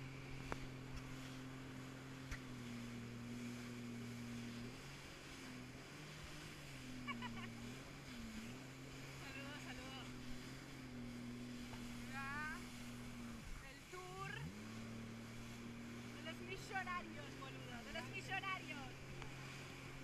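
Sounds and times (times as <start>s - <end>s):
jet ski engine running: 0.0s - 20.0s
water rushing: 0.0s - 20.0s.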